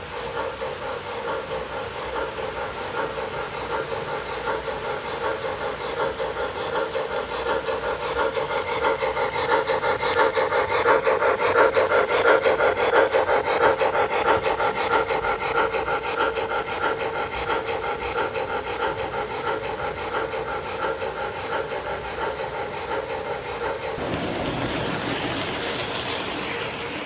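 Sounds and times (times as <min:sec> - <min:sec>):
model steam locomotive chuffing: 0:00.0 - 0:27.0
model train wheels and motor humming: 0:00.0 - 0:27.0.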